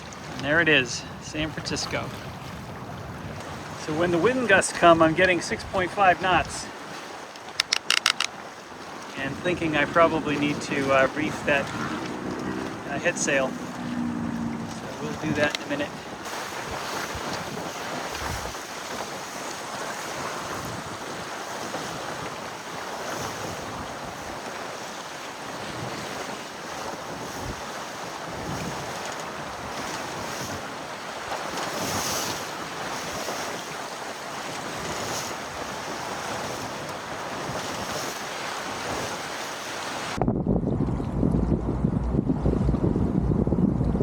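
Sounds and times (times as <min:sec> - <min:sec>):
water splashes: 0:00.0 - 0:40.2
water rushing past hull: 0:00.0 - 0:42.8
wind buffeting microphone: 0:01.9 - 0:44.0.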